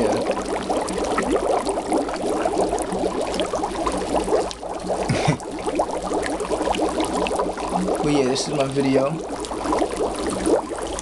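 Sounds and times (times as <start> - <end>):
dry ice bubbling in water: 0.0 - 11.0.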